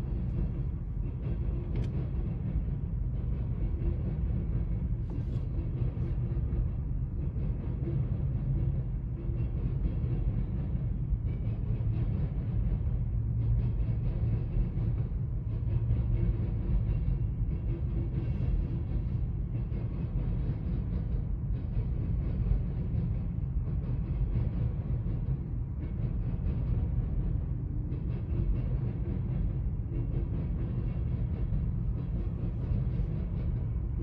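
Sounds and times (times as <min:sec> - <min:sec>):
steel wheels on rail: 0:00.0 - 0:34.0.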